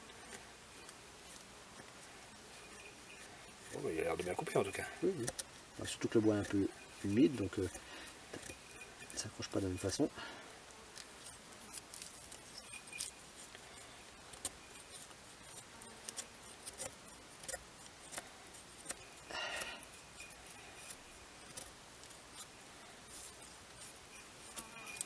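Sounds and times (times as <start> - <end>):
knife scraping wood: 0.0 - 25.0.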